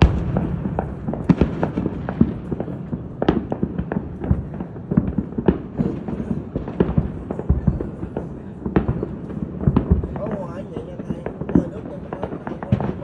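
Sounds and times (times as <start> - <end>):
fireworks popping and banging: 0.0 - 13.0.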